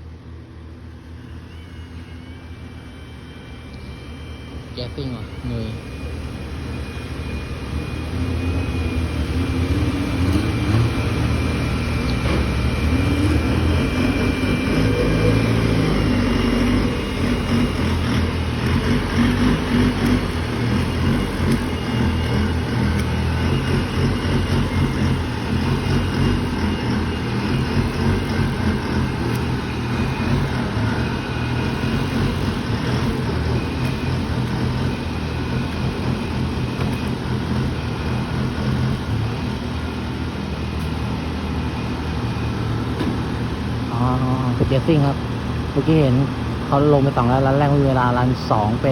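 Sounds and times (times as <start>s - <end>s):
truck engine revving hard: 5.0s - 46.6s.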